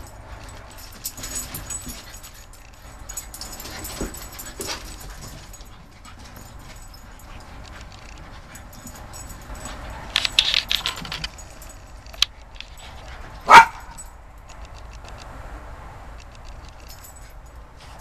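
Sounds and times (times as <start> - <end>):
collar tags jingling: 0.0 - 15.1, 16.2 - 18.0.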